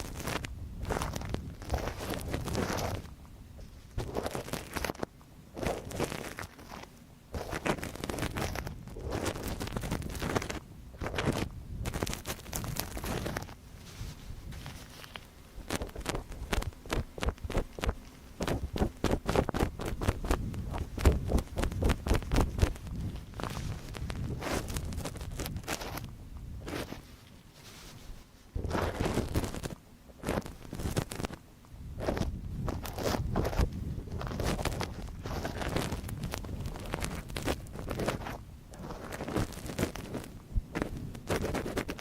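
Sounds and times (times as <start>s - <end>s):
scratching in microphone ear: 0.0s - 42.0s.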